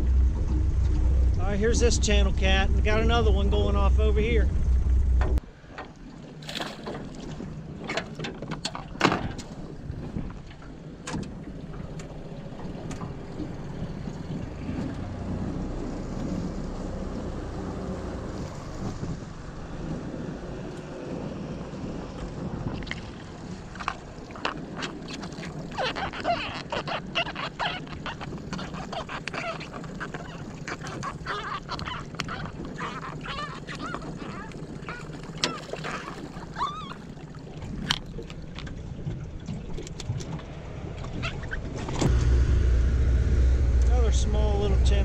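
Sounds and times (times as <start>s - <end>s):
water: 0.0s - 45.0s
wind: 0.0s - 45.0s.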